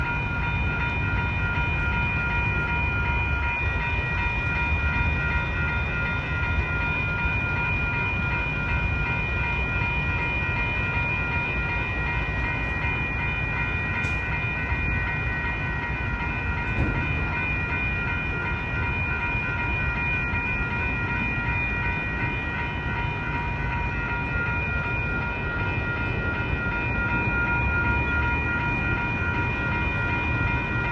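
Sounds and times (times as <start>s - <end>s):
electronic crossing bell ringing: 0.0s - 30.9s.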